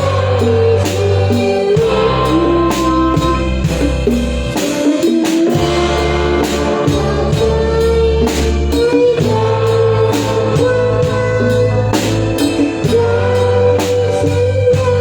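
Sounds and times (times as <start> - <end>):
drum kit beat: 0.0 - 15.0
live band playing: 0.0 - 15.0.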